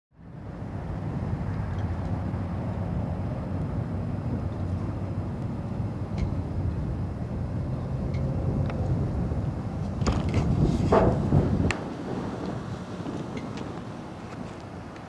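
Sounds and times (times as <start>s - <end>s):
diesel locomotive rumbling: 0.3s - 15.0s.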